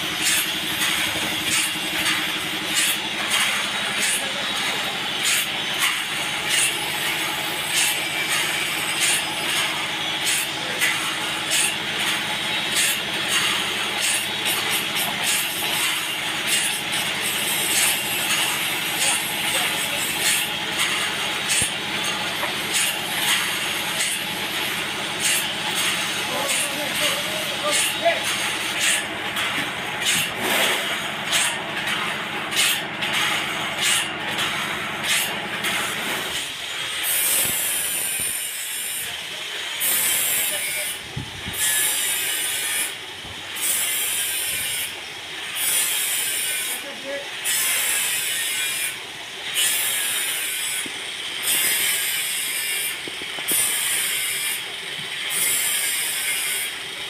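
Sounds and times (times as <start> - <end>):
saw blade cutting log: 0.0 - 57.0.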